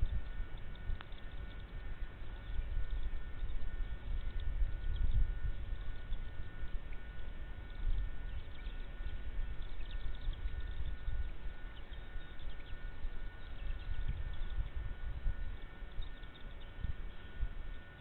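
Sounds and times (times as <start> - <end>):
thin steady whine: 0.0 - 18.0.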